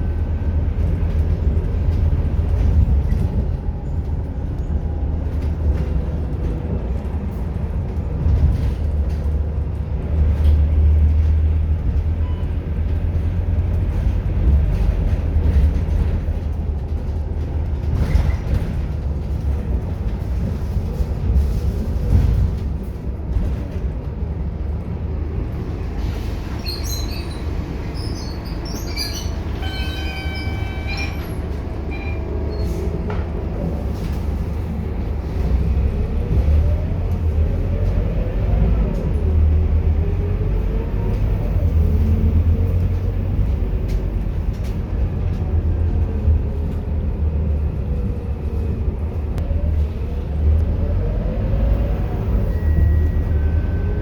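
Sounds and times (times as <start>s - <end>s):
bus engine rumbling and whining: 0.0s - 54.0s.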